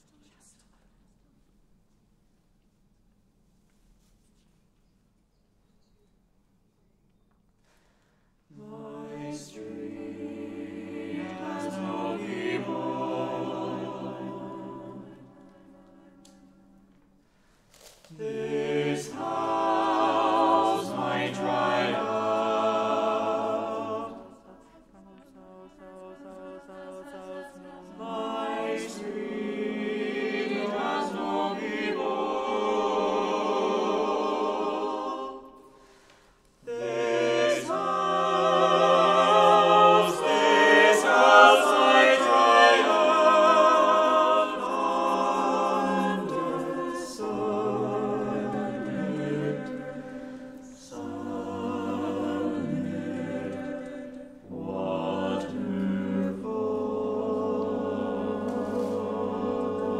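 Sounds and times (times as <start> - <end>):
choir singing a cappella: 8.5 - 17.4, 18.1 - 59.9.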